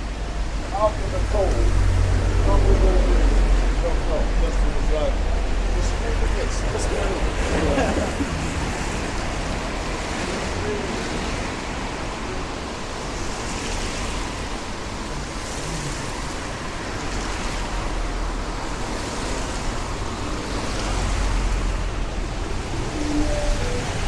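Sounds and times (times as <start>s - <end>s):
engine low rumble: 0.0s - 24.0s
tyres hissing on wet road: 0.0s - 24.0s.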